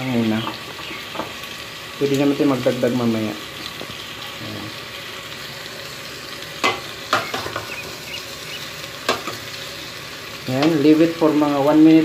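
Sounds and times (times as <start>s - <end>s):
chicken sizzling in a metal pot: 0.0s - 12.0s.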